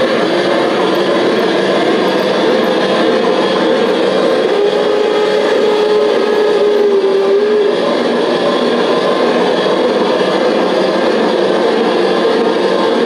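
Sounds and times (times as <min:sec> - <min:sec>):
model train motor whine: 0:00.0 - 0:13.0.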